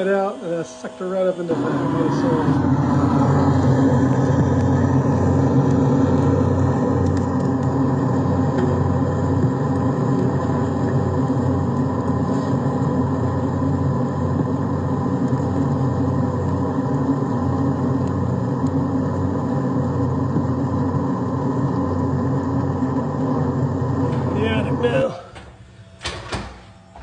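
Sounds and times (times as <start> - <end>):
bee vacuum motor running: 0.0 - 25.4.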